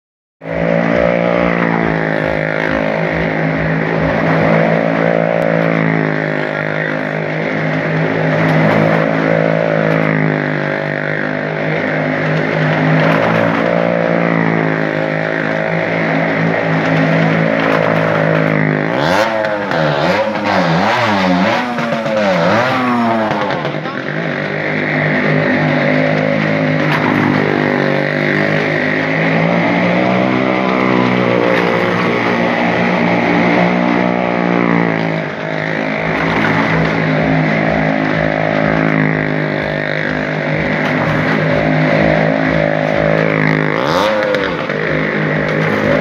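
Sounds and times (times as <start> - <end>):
vehicle engine revving: 0.4 - 46.0.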